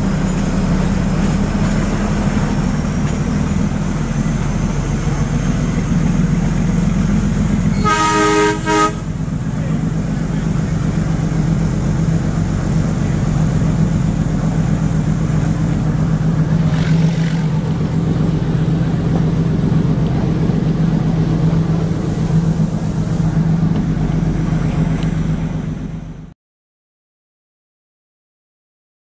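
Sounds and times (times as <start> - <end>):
coaches rumbling on track: 0.0 - 26.3
diesel locomotive drone: 0.0 - 26.4.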